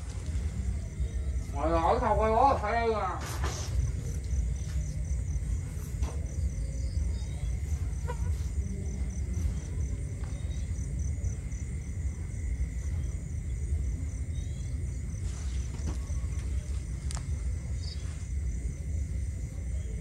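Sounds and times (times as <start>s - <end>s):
constant low rumble: 0.0s - 20.0s
crickets chirping: 0.0s - 20.0s.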